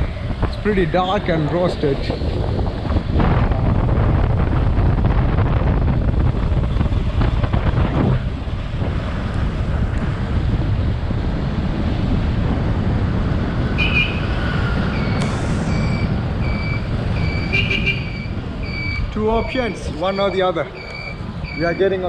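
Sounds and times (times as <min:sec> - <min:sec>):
wind buffeting microphone: 0:00.0 - 0:20.4
road noise: 0:00.0 - 0:22.0.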